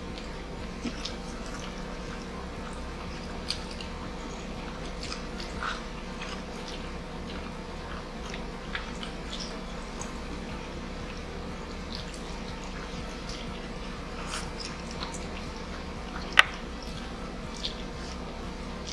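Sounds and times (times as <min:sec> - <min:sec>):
chewing and lip-smacking: 0:00.0 - 0:18.9
steady low hum: 0:00.0 - 0:18.9.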